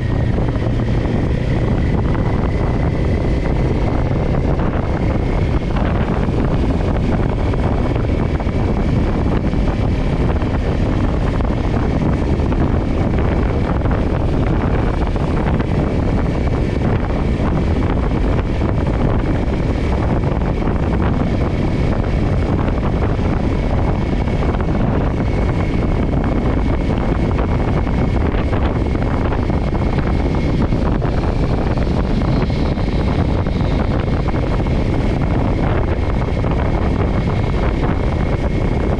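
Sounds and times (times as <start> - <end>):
motorcycle engine cruising: 0.0 - 38.9
wind rushing over microphone: 0.0 - 38.9.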